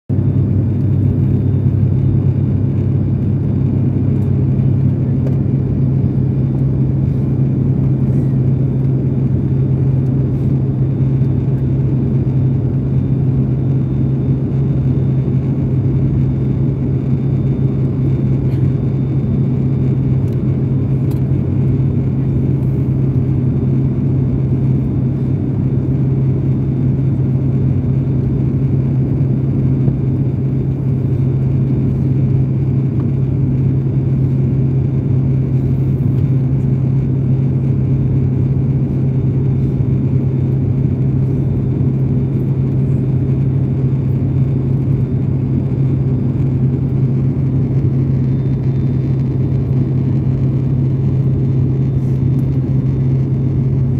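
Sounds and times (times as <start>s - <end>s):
airliner engine hum: 0.1s - 53.9s.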